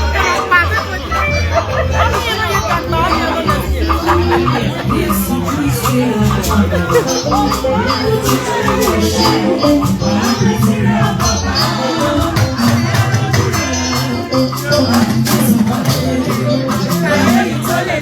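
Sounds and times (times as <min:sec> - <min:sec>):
held instrumental notes: 0:00.0 - 0:18.0
shaker keeping a steady beat: 0:00.0 - 0:18.0.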